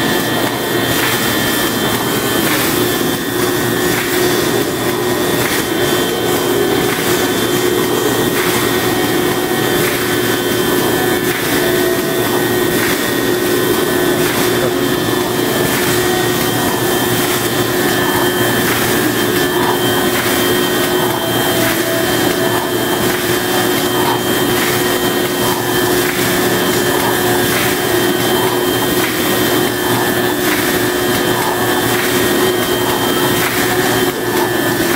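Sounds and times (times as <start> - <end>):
machine clacking: 0.0 - 34.9
machine whirring and humming: 0.0 - 34.9.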